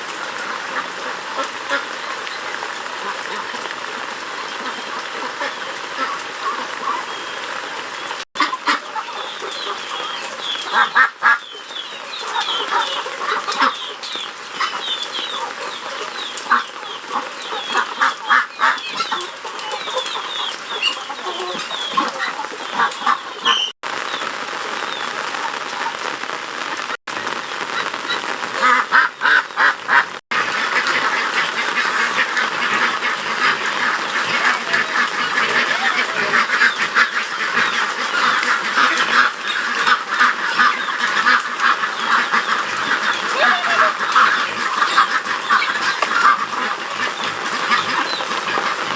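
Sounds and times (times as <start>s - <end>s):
poultry calling: 0.1s - 23.8s, 27.7s - 48.9s.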